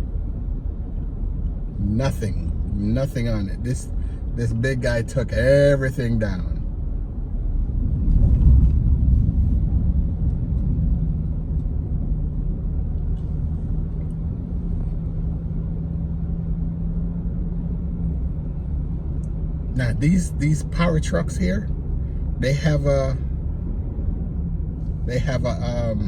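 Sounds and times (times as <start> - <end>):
car interior road rumble: 0.0 - 26.0
faint steady hum: 0.0 - 26.0.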